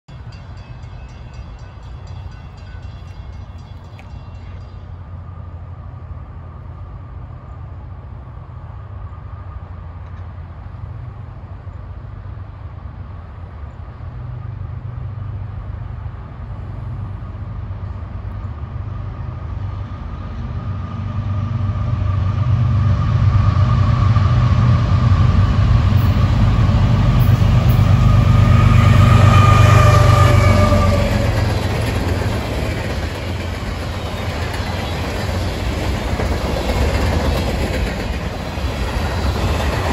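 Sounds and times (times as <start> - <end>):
locomotive engine drone and whine: 0.1 - 39.9
train wheels on rails: 0.1 - 39.9.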